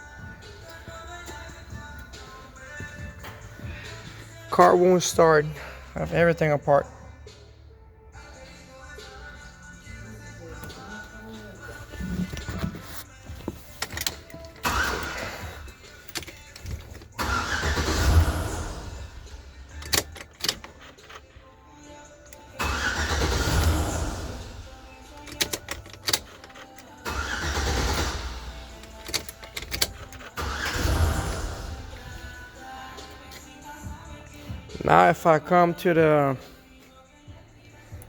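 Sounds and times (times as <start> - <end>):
truck engine cranking: 0.0 - 5.5, 8.9 - 36.5.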